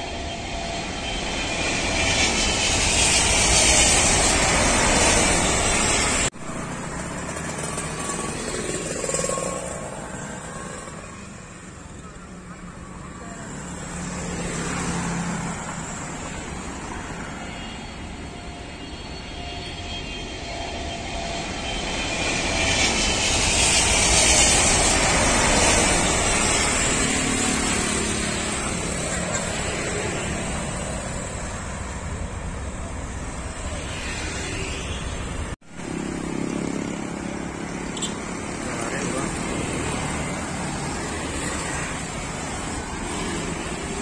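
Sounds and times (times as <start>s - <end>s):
jet airliner landing: 0.0s - 44.0s
road traffic: 0.0s - 44.0s.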